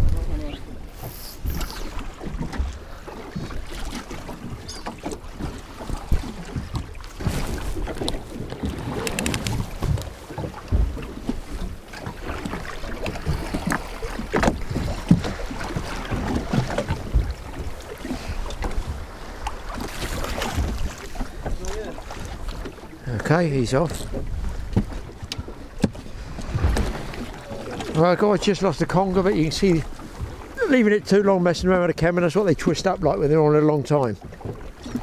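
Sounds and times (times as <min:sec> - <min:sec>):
wind buffeting microphone: 0:00.0 - 0:30.7
waves slapping boat hull: 0:00.0 - 0:35.0.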